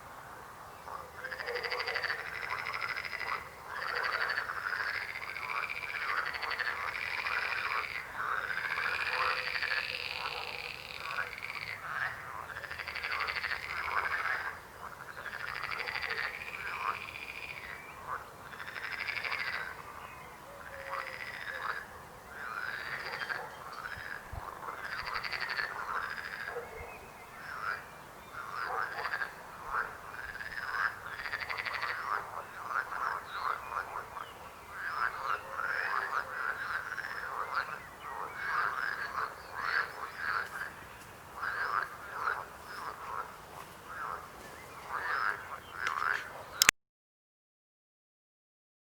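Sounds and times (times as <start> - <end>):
frogs croaking: 0.0 - 46.7.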